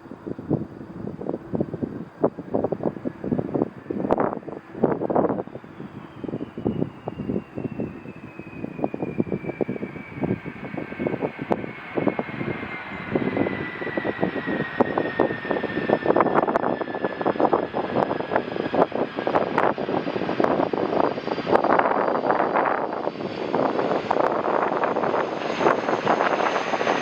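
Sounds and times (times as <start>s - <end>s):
jet engine whine: 0.0s - 27.0s
wind buffeting microphone: 0.0s - 27.0s.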